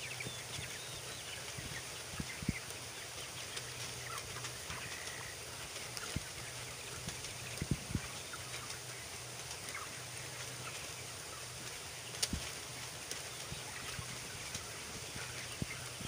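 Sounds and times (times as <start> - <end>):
chickens murmuring: 0.0 - 16.0.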